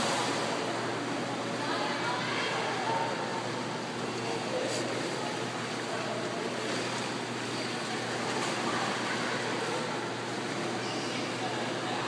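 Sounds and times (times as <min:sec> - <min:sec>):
pool water: 0:00.0 - 0:12.0.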